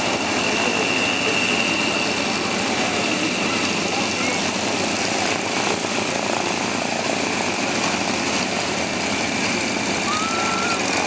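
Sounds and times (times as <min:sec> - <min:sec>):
propeller aircraft engines droning: 0:00.0 - 0:11.0.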